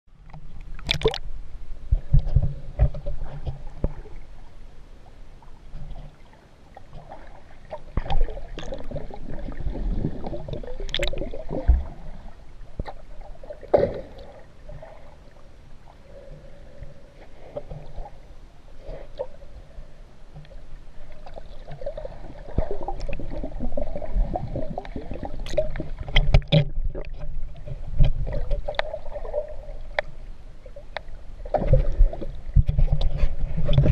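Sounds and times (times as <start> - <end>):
muffled water sloshing: 0.1 - 33.9.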